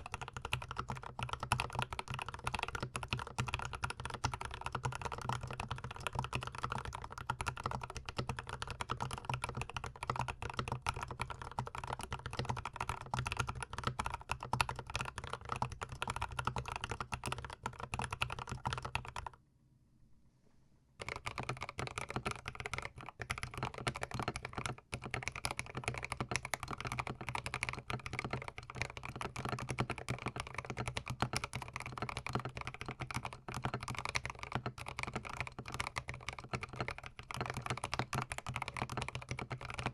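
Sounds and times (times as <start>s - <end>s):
mechanical keyboard typing: 0.0s - 19.4s, 21.0s - 39.9s.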